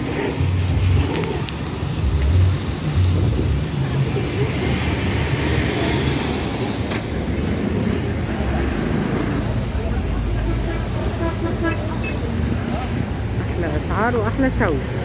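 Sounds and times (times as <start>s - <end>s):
vehicle and road noise: 0.0s - 15.0s.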